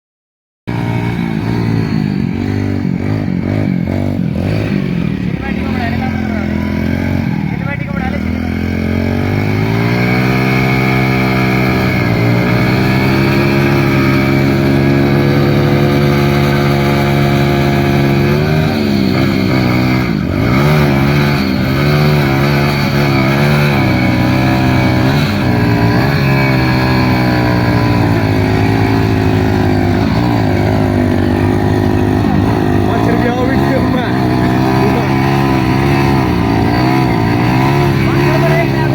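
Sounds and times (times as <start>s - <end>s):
motorcycle engine revving: 0.7s - 38.9s.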